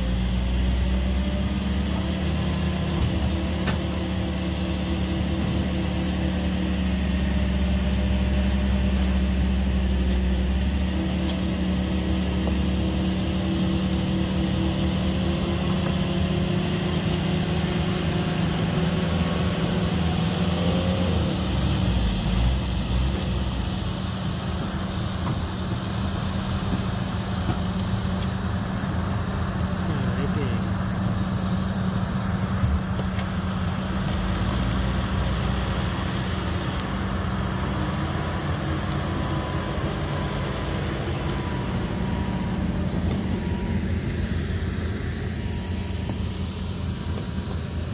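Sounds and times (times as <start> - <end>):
large engine humming: 0.0 - 47.9.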